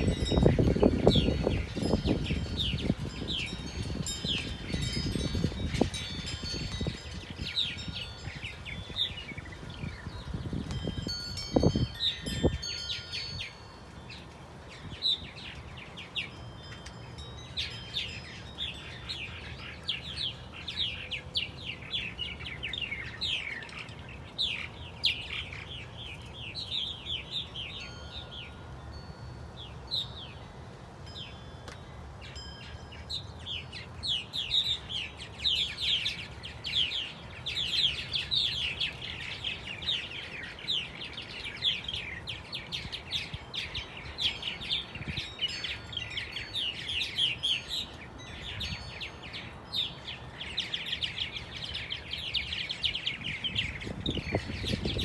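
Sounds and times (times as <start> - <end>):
birds chirping and chattering: 0.0 - 55.0.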